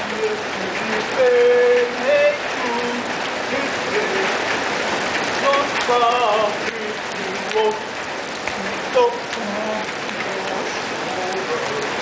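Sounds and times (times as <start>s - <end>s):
person singing: 0.0s - 4.5s, 5.4s - 12.0s
rain on wet pavement: 0.0s - 12.0s.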